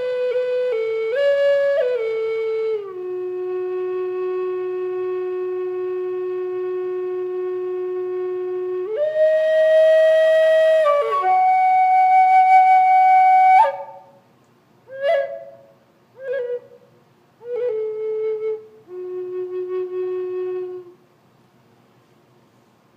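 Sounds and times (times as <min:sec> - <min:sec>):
flute melody: 0:00.0 - 0:14.2, 0:14.9 - 0:21.0.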